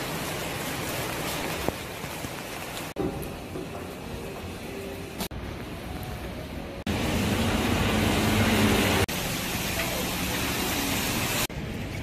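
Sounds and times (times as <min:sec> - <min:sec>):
tyres hissing on wet street: 0:00.0 - 0:12.0.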